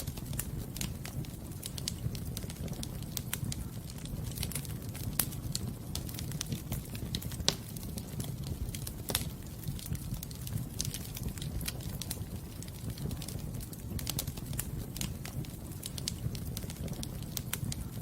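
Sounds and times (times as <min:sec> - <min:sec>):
fire crackling with sharp pops: 0:00.0 - 0:18.0
low rumble of flames: 0:00.0 - 0:18.0.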